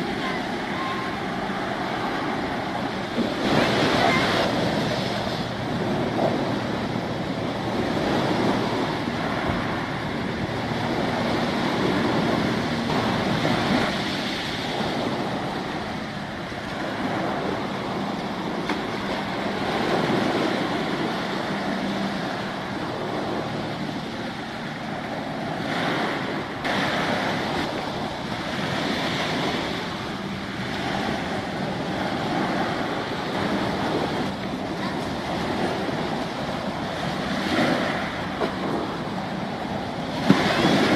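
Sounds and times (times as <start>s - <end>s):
faint low engine drone: 0.0s - 40.9s
waves breaking on shore: 0.0s - 40.9s
wind gusting on microphone: 0.0s - 40.9s.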